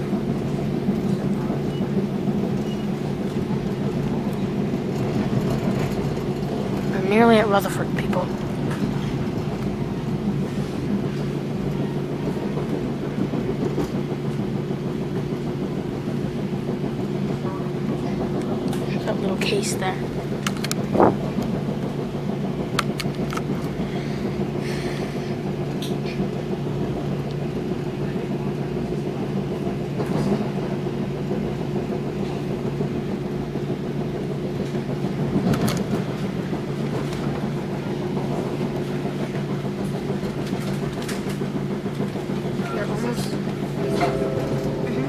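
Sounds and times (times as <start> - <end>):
train coach running hum: 0.0 - 45.0.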